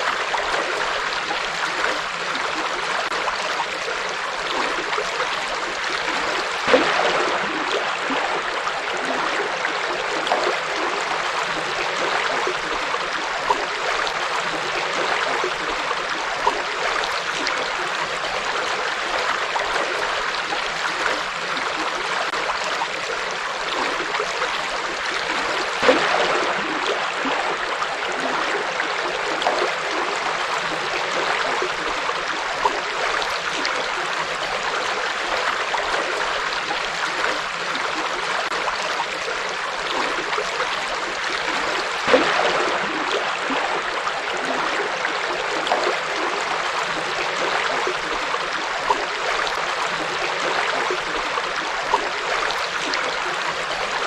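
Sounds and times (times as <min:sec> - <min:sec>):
river water flowing: 0:00.0 - 0:54.0
water splashes: 0:00.0 - 0:54.0.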